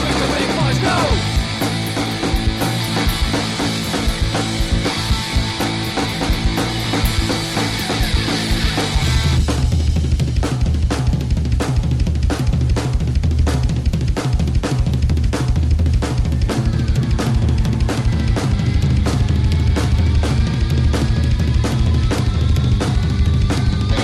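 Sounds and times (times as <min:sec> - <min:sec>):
drum kit beating: 0:00.0 - 0:24.0
heavy bass line: 0:00.0 - 0:24.0.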